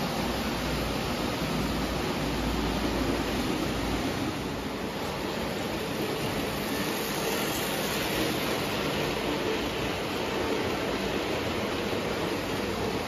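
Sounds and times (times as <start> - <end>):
model train rolling on rails: 0.0 - 13.0.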